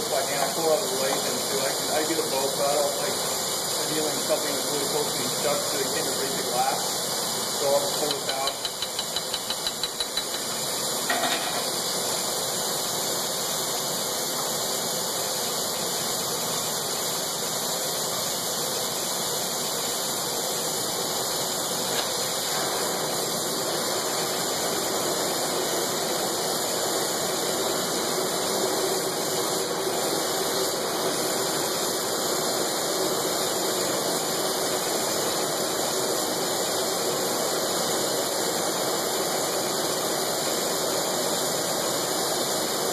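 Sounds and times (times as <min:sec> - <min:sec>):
torch flame hissing: 0:00.0 - 0:42.9.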